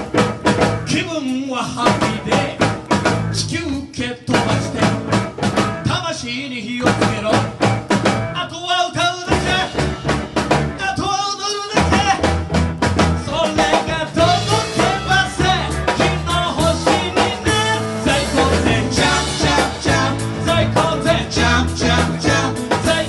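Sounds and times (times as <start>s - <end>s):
drum kit beat: 0.0s - 6.2s, 6.8s - 23.0s
live band playing upbeat song: 0.0s - 23.0s.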